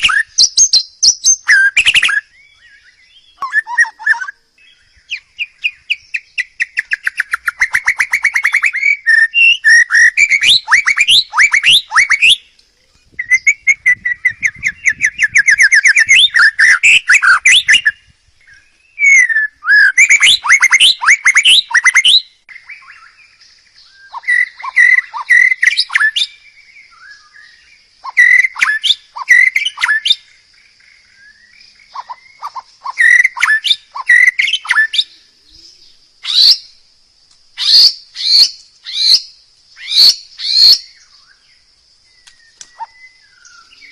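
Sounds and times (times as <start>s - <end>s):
songbird whistling and trilling: 0.0s - 36.8s, 37.6s - 43.9s.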